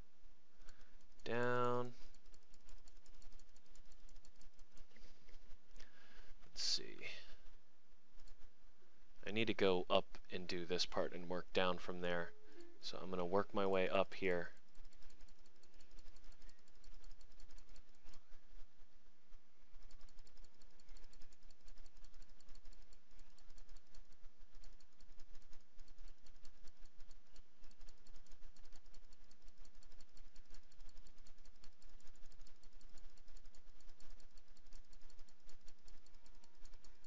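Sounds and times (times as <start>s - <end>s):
computer mouse clicking: 0.0s - 7.6s, 8.2s - 8.5s, 9.4s - 37.0s.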